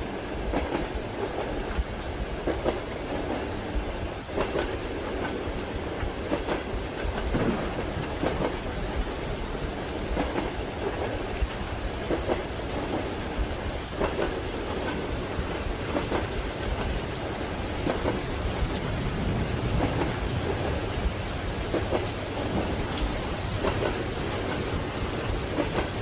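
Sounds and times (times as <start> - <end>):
steady rain: 0.0 - 26.0
train carriage rumble: 0.0 - 26.0
train wheels knocking on rail joints: 0.0 - 26.0.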